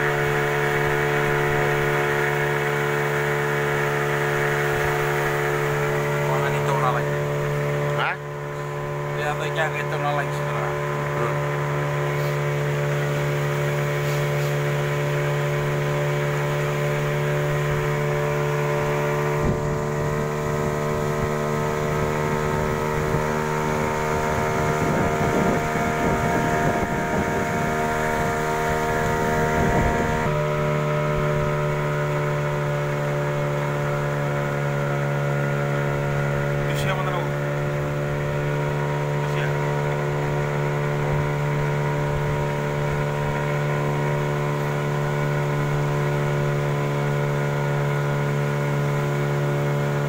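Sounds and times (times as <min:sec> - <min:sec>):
outboard motor droning: 0:00.0 - 0:50.0
water rushing along hull: 0:00.0 - 0:50.0.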